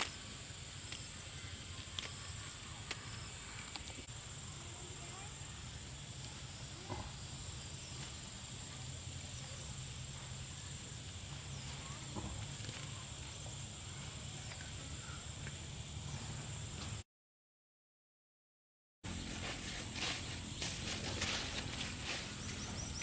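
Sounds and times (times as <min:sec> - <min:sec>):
faint chirps: 0:00.0 - 0:17.0, 0:20.0 - 0:23.0.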